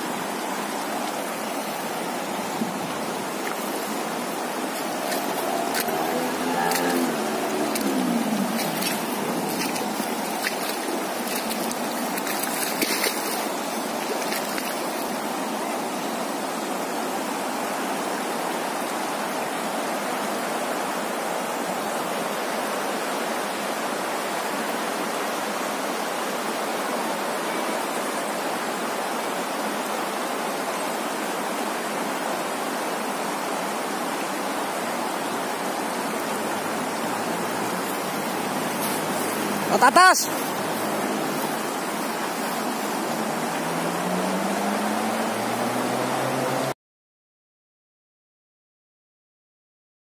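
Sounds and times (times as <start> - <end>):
river water rushing over stones: 0.0 - 46.8.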